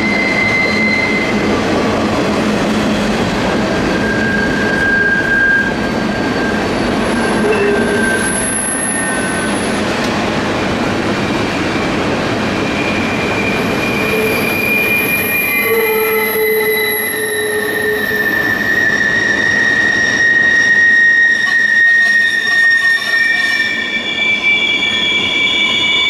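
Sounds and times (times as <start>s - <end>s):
high wheel squeals: 0.0s - 1.7s, 2.6s - 9.9s, 12.6s - 26.0s
train cars rolling on rails: 0.0s - 26.0s.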